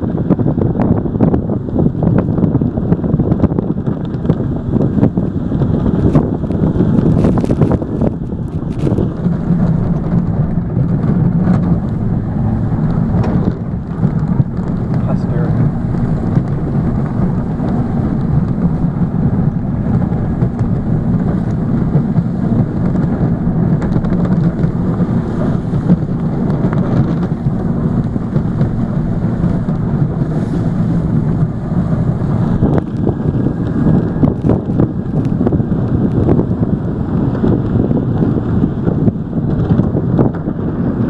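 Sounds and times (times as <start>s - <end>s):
snowplow engine rumbling: 0.0s - 41.0s
wind buffeting microphone: 0.0s - 41.0s.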